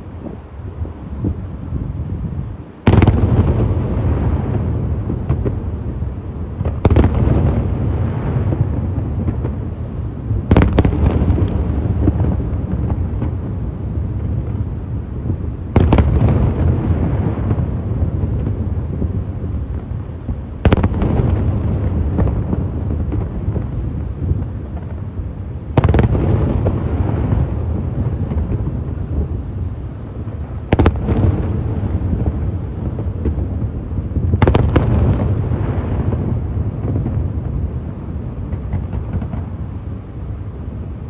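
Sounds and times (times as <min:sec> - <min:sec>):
deep rumble of fireworks: 0:00.0 - 0:41.0.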